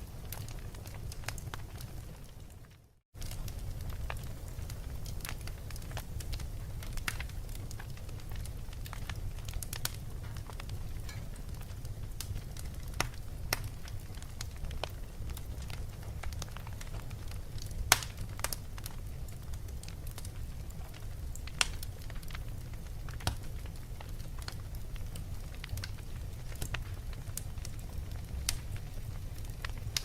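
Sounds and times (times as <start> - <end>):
low rumble of flames: 0.0 - 30.0
wood fire crackling and popping: 0.0 - 30.0.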